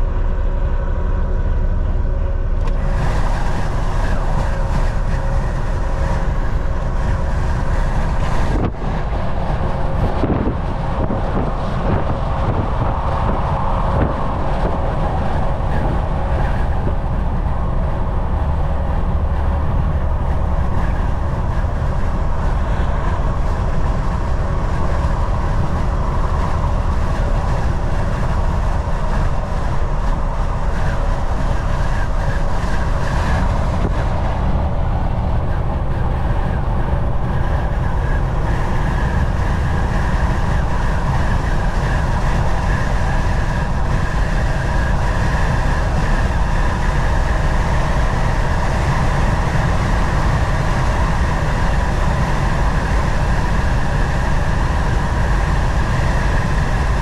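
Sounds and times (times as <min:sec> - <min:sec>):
truck engine drone: 0:00.0 - 0:57.0.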